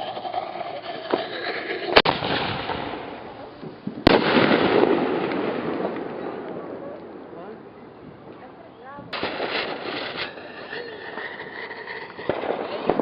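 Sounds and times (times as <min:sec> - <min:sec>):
fireworks crackling fizz: 0:00.0 - 0:07.7, 0:09.1 - 0:13.0
fireworks bangs: 0:01.0 - 0:08.4, 0:09.0 - 0:13.0.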